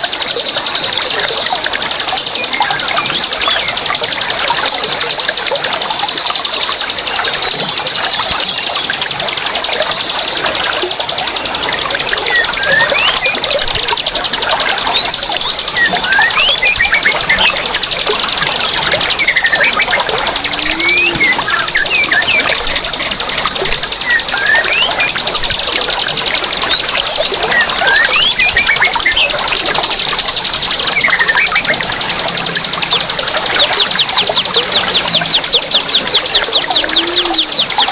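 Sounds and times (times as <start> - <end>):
birds chirping and chattering: 0.0 - 37.9.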